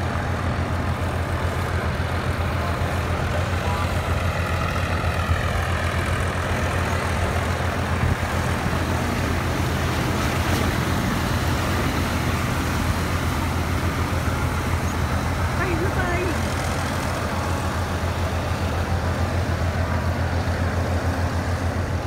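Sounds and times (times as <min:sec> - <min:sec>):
bus engine humming: 0:00.0 - 0:22.0
water rushing and splashing: 0:00.0 - 0:22.0.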